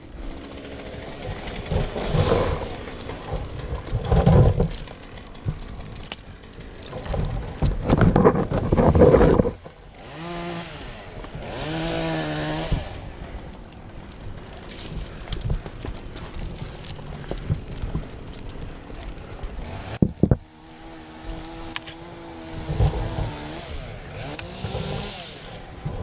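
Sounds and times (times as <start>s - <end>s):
chainsaw revving: 0.0s - 26.0s.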